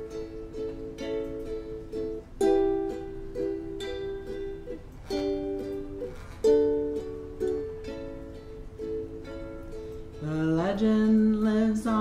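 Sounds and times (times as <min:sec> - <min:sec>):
ukulele strummed chords: 0:00.0 - 0:12.0.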